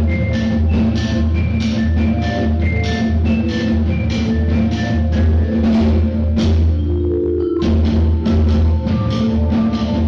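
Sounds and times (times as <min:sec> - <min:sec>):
drums in steady beat: 0:00.0 - 0:10.0
marimba melody: 0:00.0 - 0:10.0.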